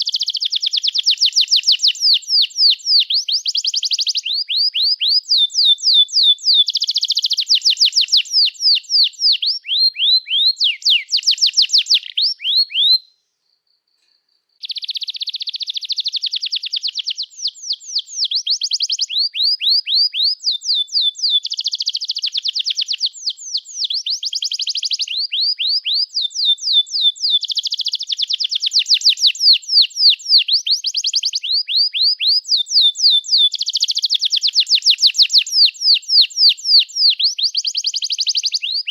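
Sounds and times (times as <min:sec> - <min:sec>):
canary singing trills: 0:00.0 - 0:13.1, 0:14.6 - 0:38.9.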